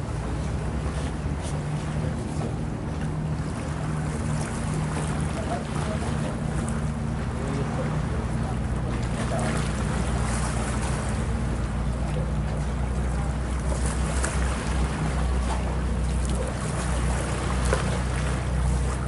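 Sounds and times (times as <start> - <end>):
boat engine droning: 0.0 - 19.0
rushing wind and water: 0.0 - 19.0.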